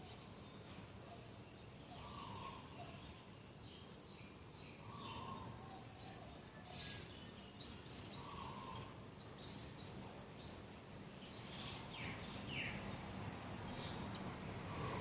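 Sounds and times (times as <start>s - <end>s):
birds chirping: 0.0s - 13.0s
faint background hum: 0.0s - 15.0s.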